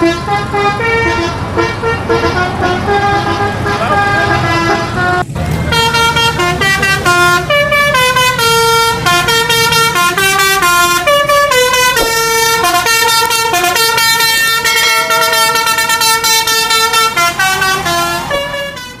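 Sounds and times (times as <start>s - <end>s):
multi-tone horn playing melody: 0.0s - 19.0s.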